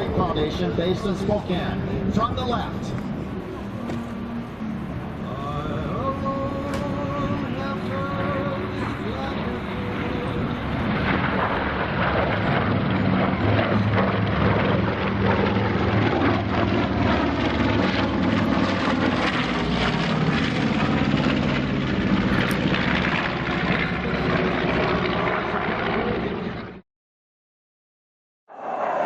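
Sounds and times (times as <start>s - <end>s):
propeller aircraft engines droning: 0.0s - 26.8s.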